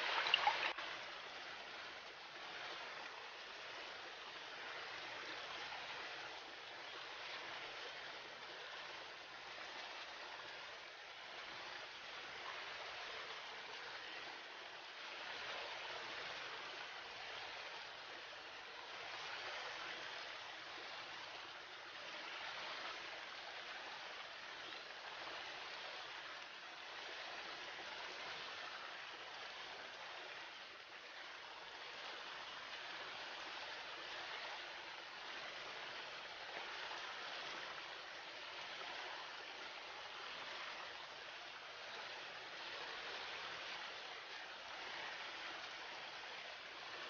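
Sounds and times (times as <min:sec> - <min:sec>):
river water rushing over stones: 0:00.0 - 0:47.0.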